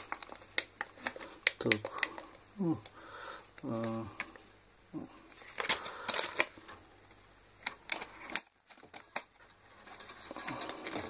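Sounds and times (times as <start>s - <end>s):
plastic clicks and clatter: 0.0s - 4.4s, 5.3s - 6.8s, 7.6s - 11.0s.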